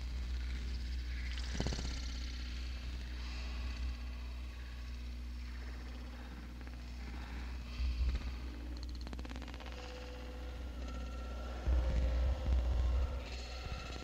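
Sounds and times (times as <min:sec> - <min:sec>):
grainy electronic textures: 0:00.0 - 0:14.0
low hum: 0:00.0 - 0:14.0.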